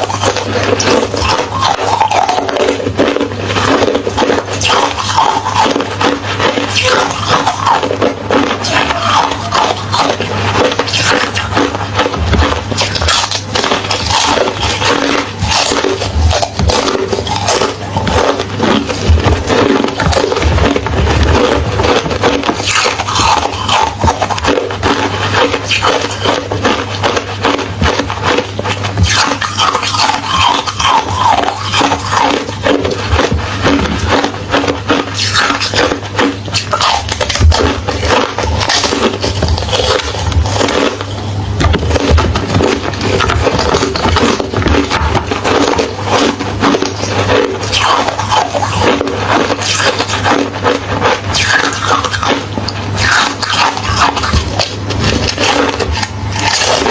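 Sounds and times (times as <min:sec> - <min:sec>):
person chewing crunchy ice: 0:00.0 - 0:56.9
steady low hum: 0:00.0 - 0:56.9.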